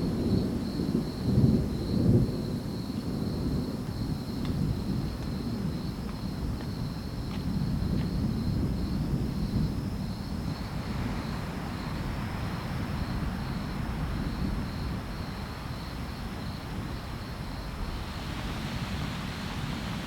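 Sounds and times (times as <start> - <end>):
insects chirping faintly: 0.0 - 20.0
steady rain hiss: 0.0 - 20.0.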